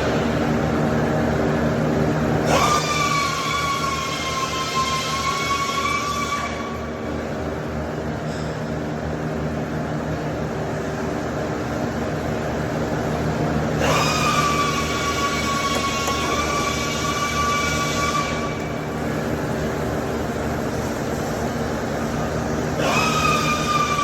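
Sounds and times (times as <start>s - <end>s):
low machine hum: 0.0s - 24.0s
welding arc whine and hiss: 0.0s - 24.0s.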